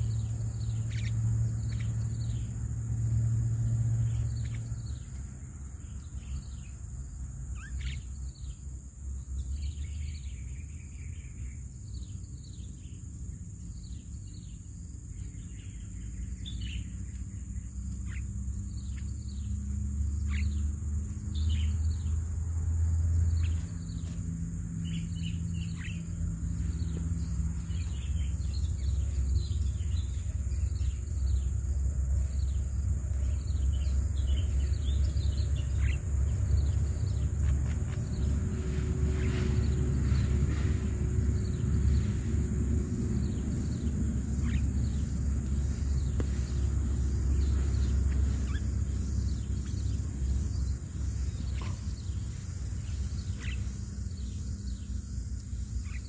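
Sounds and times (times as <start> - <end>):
birds chirping: 0.0 - 56.0
high insect drone: 0.0 - 56.0.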